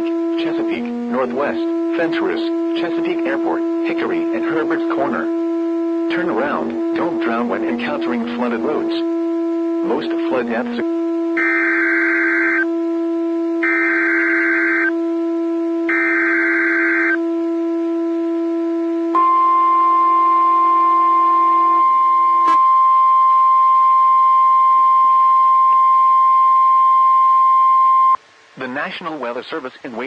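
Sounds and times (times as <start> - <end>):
steady warning alarm tone: 0.0 - 28.2.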